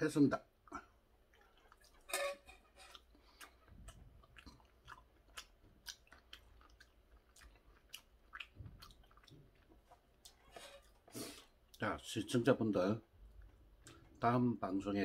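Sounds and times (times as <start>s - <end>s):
faint wet chewing: 0.6s - 12.1s, 13.2s - 14.2s.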